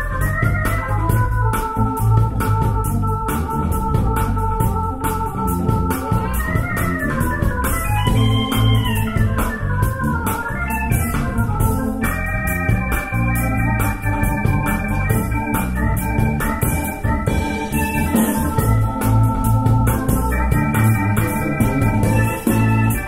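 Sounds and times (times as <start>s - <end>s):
music over loudspeakers: 0.0s - 23.0s.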